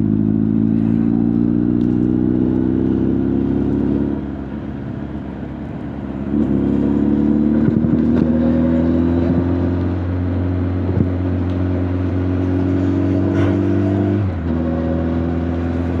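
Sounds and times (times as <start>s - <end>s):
motorcycle engine and exhaust: 0.0s - 16.0s.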